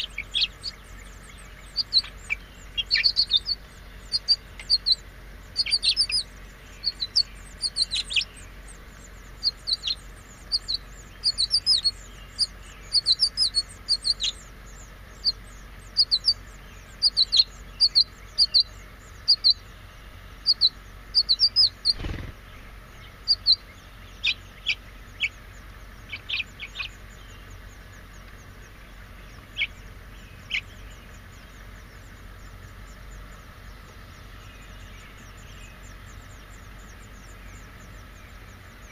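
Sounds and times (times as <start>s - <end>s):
nestlings peeping: 0.0s - 38.9s.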